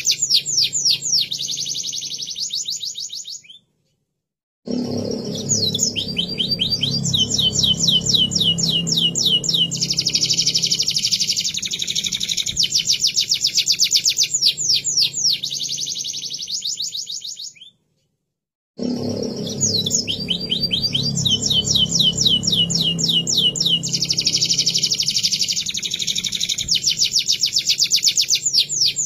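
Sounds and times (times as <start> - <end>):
canary singing trills: 0.0 - 3.6, 4.8 - 17.8, 19.0 - 29.0.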